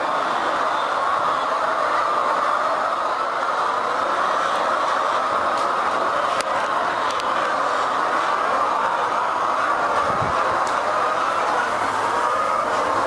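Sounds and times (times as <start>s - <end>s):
hens clucking: 0.0s - 13.0s
ventilation fans running: 0.0s - 13.0s.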